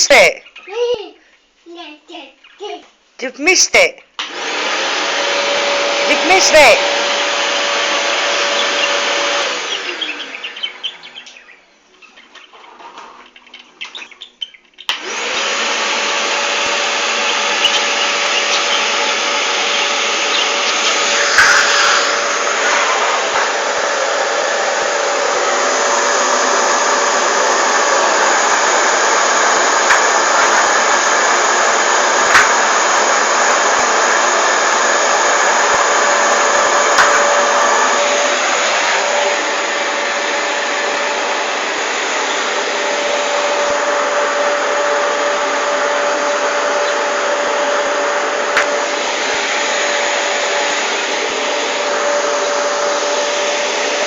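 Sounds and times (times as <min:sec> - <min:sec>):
vacuum cleaner whine: 0:04.2 - 0:14.3, 0:14.9 - 0:54.0.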